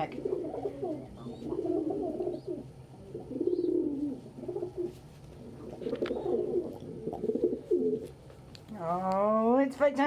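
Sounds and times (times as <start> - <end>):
pigeon cooing: 0.0 - 8.2.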